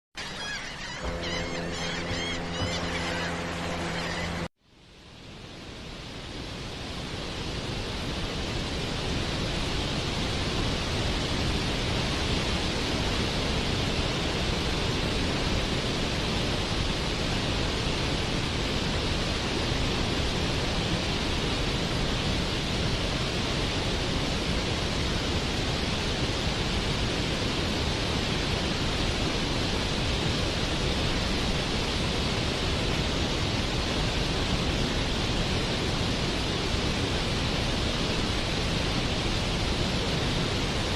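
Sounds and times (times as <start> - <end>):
waterfall rushing: 0.2 - 4.5, 5.6 - 40.9.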